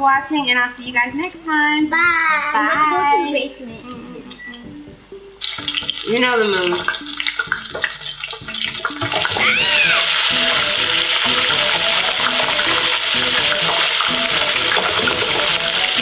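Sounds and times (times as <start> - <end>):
background music with repeated notes: 0.0 - 16.0.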